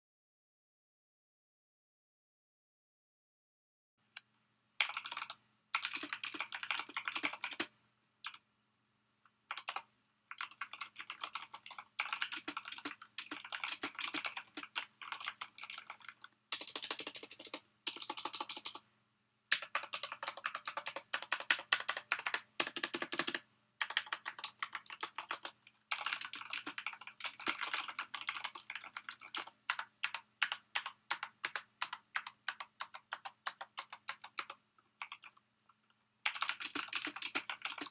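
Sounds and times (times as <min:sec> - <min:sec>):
typing on mechanical keyboard: 0:04.8 - 0:08.4, 0:09.5 - 0:18.8, 0:19.5 - 0:35.4, 0:36.2 - 0:37.9.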